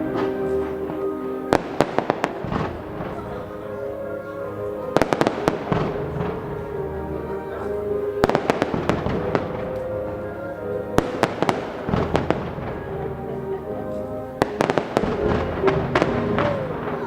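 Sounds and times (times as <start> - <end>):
fireworks bangs and crackles: 0.0 - 17.0
orchestral music: 0.0 - 17.0.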